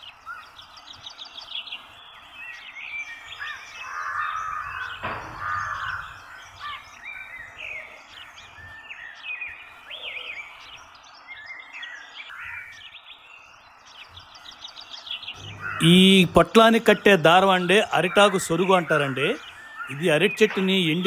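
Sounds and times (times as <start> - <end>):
birds chirping and whistling: 0.0 - 21.0
outdoor background hiss: 0.0 - 21.0.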